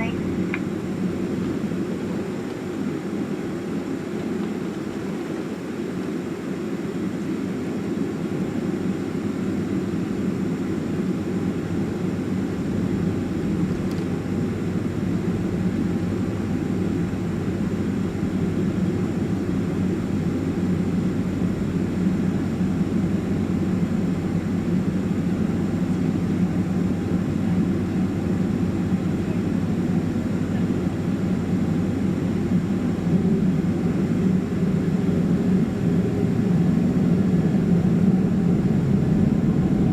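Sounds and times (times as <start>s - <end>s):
jet engine noise in cabin: 0.0s - 39.9s
deep rumble: 7.6s - 39.9s.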